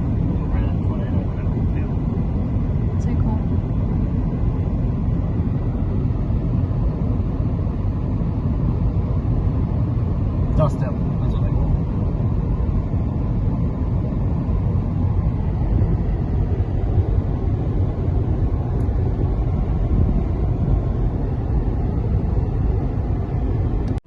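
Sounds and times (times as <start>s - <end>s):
car interior driving rumble: 0.0s - 24.0s.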